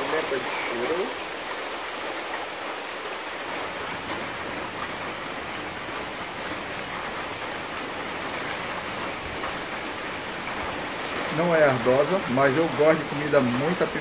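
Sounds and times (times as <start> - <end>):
rain on a corrugated roof: 0.0 - 14.0.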